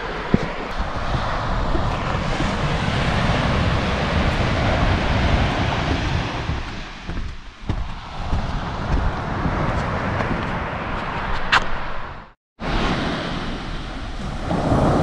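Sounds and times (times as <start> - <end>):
surf rushing: 0.0 - 11.3, 12.6 - 15.0
wind rumbling on microphone: 0.0 - 15.0.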